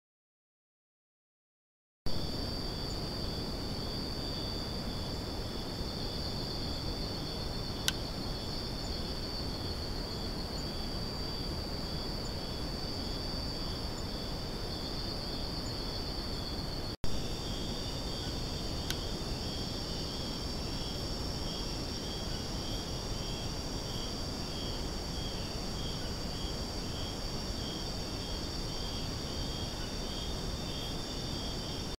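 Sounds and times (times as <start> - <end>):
high-pitched insect trill: 2.1 - 32.0
pulsing insect trill: 2.1 - 32.0
even hiss: 2.2 - 32.0.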